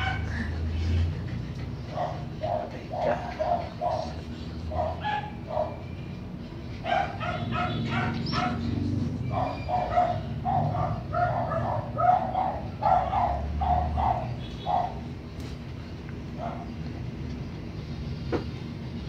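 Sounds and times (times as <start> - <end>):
puppy barking and yelping: 0.0 - 15.4, 16.3 - 16.8.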